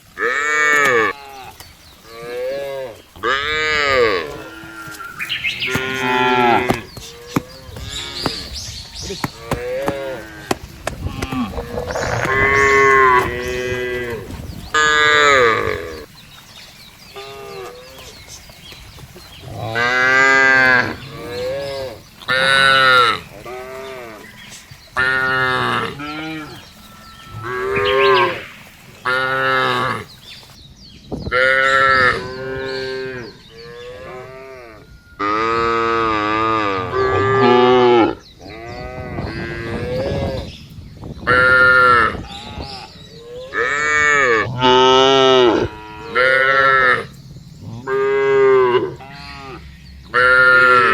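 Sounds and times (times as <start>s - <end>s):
cows mooing: 0.2s - 16.1s, 19.4s - 30.2s, 31.4s - 40.5s, 41.3s - 50.9s.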